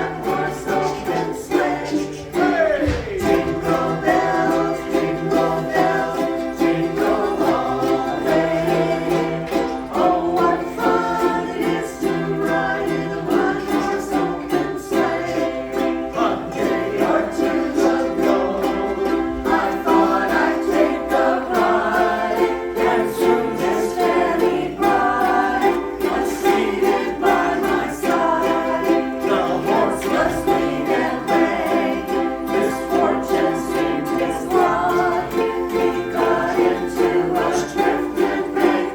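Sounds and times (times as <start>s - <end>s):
group of voices singing: 0.0s - 38.9s
ukuleles strumming chords: 0.0s - 38.9s.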